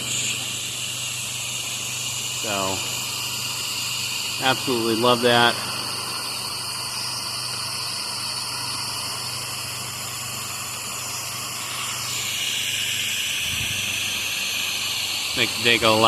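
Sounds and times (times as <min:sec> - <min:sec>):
high-pressure water spray hiss: 0:00.0 - 0:16.0
pressure washer motor hum: 0:00.0 - 0:16.0.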